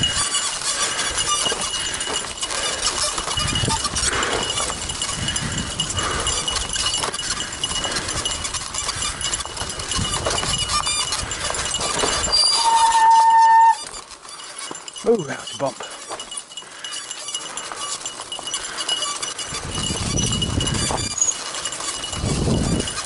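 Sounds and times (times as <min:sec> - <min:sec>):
bike rattling: 0:00.0 - 0:23.0.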